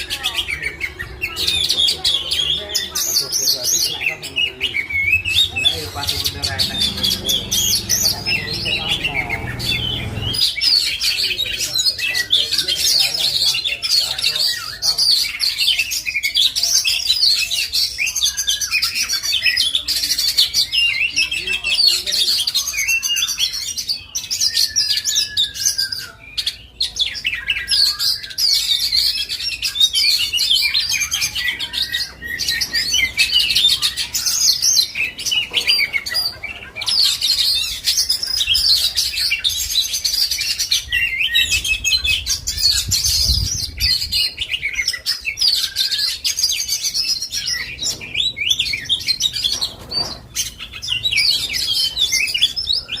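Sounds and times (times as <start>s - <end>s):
bird singing whistles and chatter: 0.0s - 53.0s.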